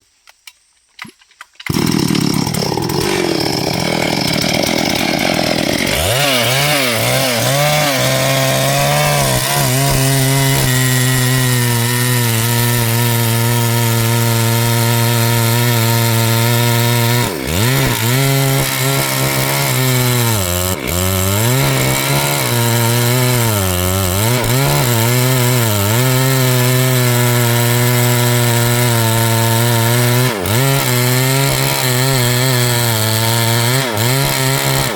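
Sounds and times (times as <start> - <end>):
chainsaw cutting wood: 1.6 - 34.9.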